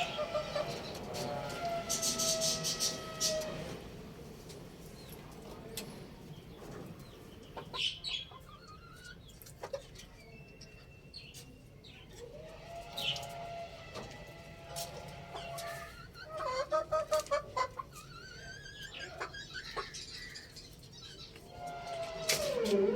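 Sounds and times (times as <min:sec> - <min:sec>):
chickens calling: 0:00.0 - 0:22.9.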